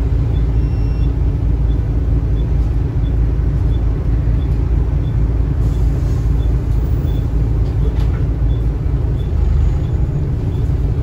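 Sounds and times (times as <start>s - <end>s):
bus diesel engine: 0.0s - 11.0s
road rumble: 0.0s - 11.0s.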